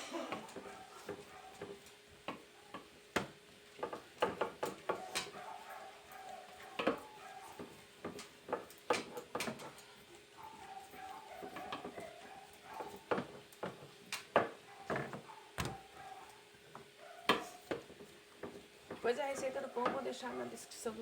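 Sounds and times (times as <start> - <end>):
knocks and clicks of kitchen work: 0.0 - 21.0.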